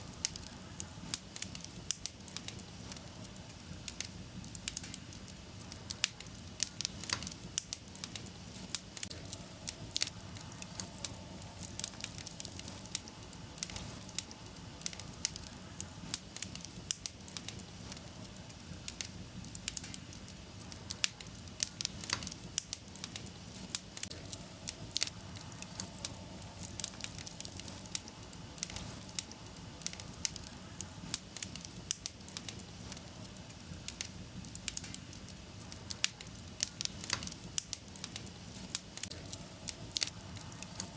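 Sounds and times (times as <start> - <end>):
rush of flames: 0.0 - 40.9
wood fire crackling and popping: 0.0 - 40.9.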